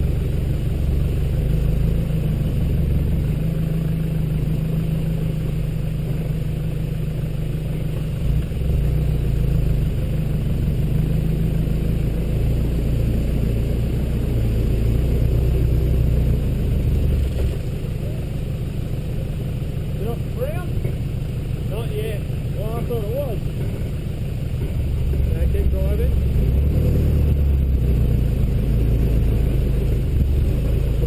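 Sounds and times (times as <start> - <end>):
truck engine idling: 0.0 - 31.0.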